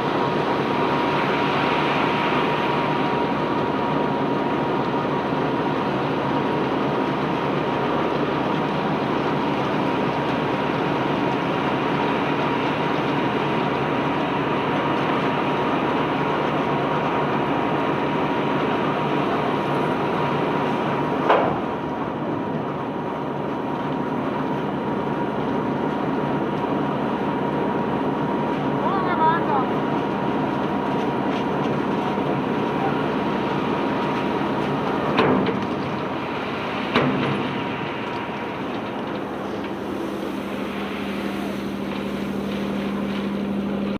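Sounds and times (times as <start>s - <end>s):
conveyor belt machinery running: 0.0s - 43.9s
machinery whine: 0.0s - 43.9s.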